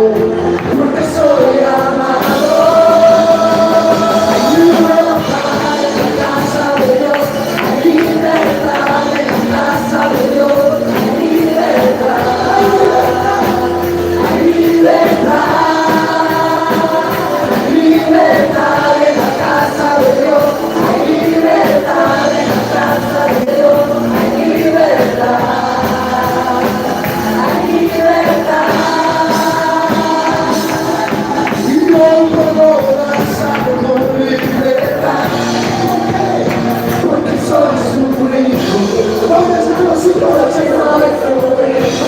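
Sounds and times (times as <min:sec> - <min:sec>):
band accompaniment: 0:00.0 - 0:42.0
group singing worship song: 0:00.0 - 0:42.0.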